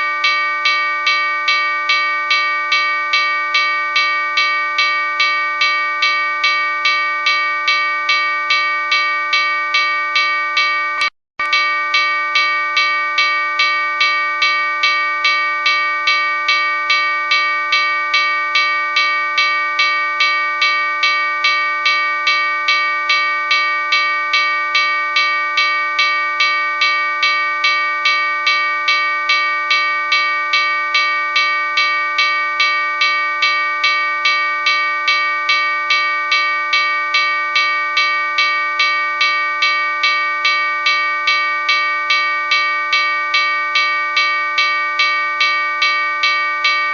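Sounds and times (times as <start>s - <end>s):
locomotive bell ringing: 0.0s - 46.9s.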